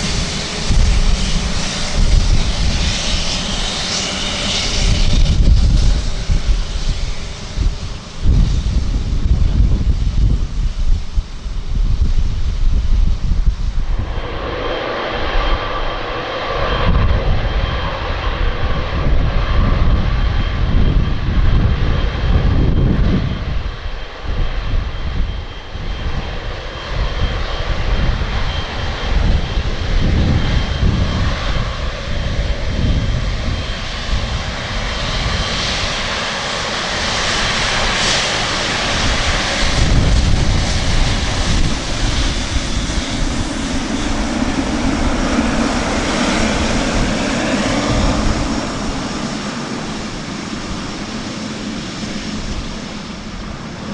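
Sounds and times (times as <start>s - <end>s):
jet engines running: 0.0s - 53.9s
wind rumbling on microphone: 0.0s - 53.9s.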